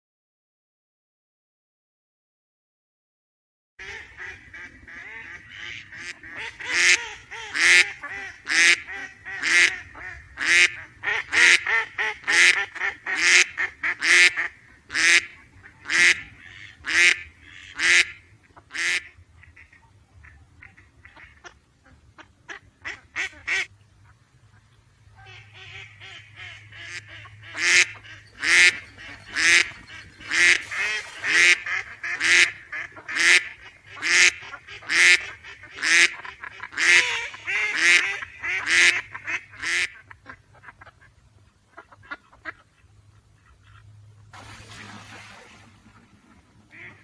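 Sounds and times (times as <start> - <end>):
ducks quacking: 3.8 - 47.0.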